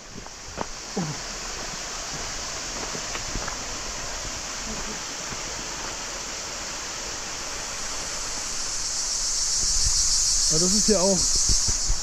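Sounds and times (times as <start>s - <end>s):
cicadas shrilling: 0.0s - 12.0s.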